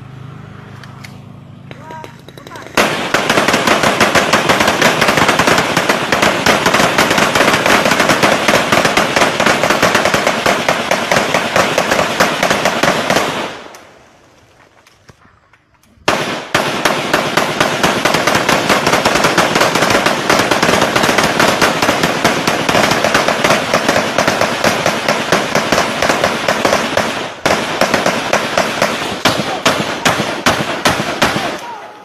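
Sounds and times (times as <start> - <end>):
rapid sharp bangs: 1.7 - 13.7, 16.0 - 32.0.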